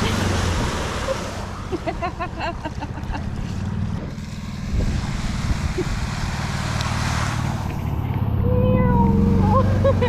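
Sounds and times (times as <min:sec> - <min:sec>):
golf cart running: 0:00.0 - 0:10.0.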